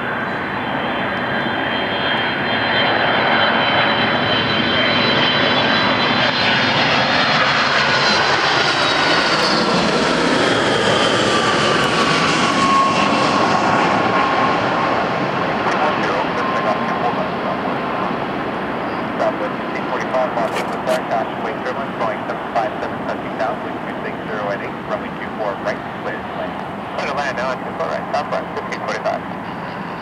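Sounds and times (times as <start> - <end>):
jet engine rush with whine: 0.0 - 30.0.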